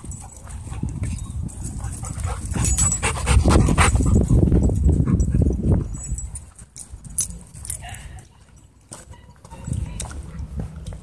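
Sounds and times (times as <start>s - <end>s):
dogs growling and scuffling: 0.0s - 7.8s, 9.4s - 11.0s.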